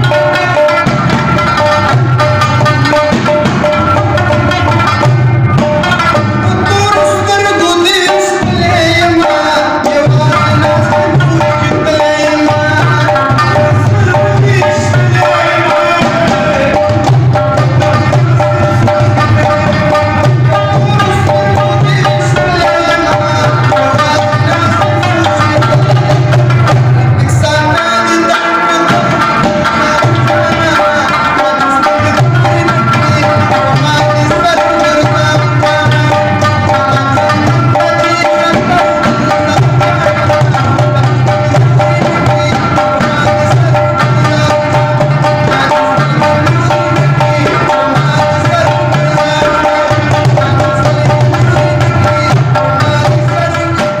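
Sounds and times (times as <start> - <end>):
clay pot drum rhythm: 0.0 - 54.0
man singing: 0.0 - 54.0.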